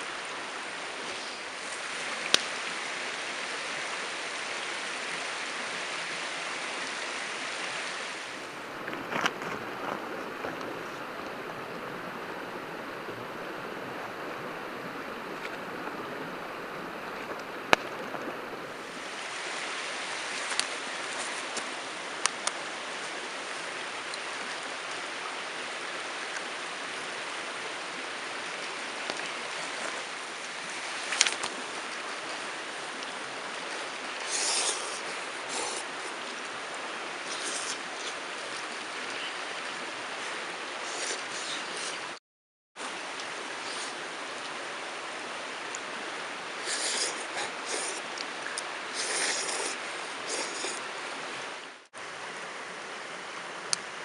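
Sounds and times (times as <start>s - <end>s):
mountain stream rushing: 0.0s - 42.2s, 42.8s - 54.0s.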